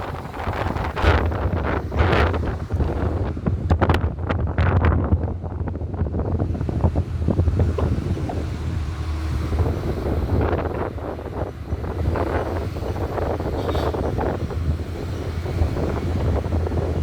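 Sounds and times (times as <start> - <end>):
moving car rumble: 0.0 - 17.0
wind buffeting microphone: 0.0 - 17.0.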